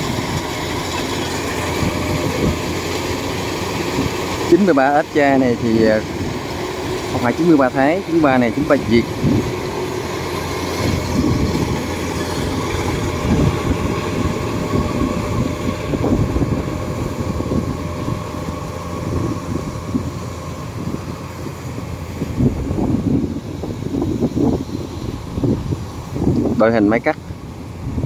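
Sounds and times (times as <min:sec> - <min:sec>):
combine harvester running: 0:00.0 - 0:28.0.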